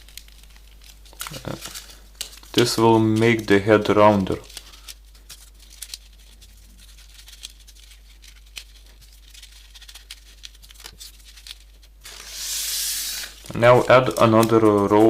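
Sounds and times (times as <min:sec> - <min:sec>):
low steady hum: 0:00.0 - 0:15.0
paper rustling and clicking: 0:00.0 - 0:15.0.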